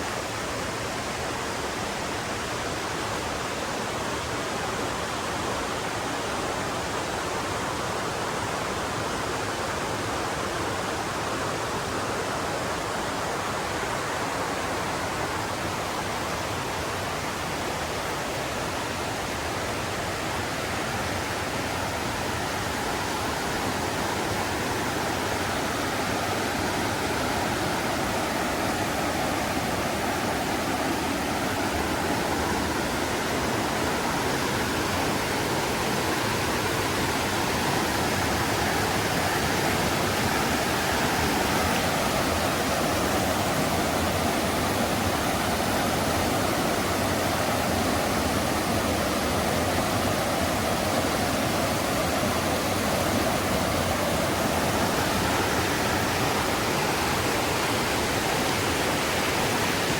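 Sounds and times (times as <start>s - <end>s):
mountain river flowing: 0.0s - 59.9s.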